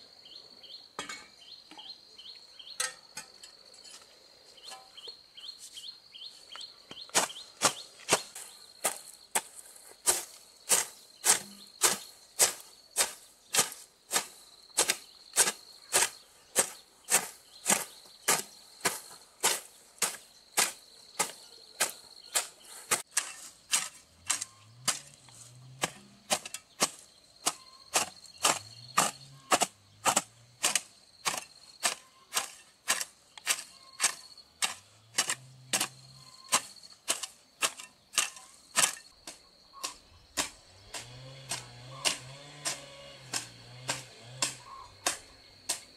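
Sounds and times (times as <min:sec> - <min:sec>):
high insect trill: 0:01.5 - 0:45.9
hand tool striking: 0:06.9 - 0:09.5, 0:10.1 - 0:45.9.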